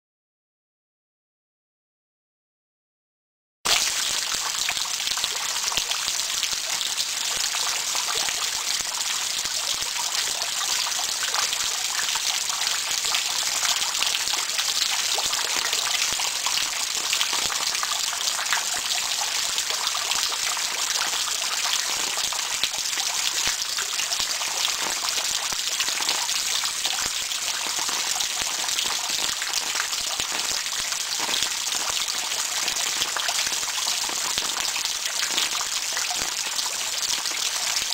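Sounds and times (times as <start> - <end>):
heavy rain: 3.7 - 37.9.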